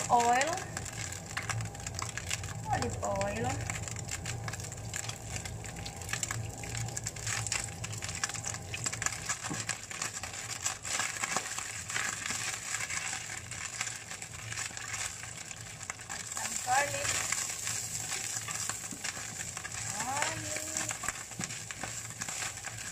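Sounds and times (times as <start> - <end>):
fish sizzling in oil: 0.0 - 22.9.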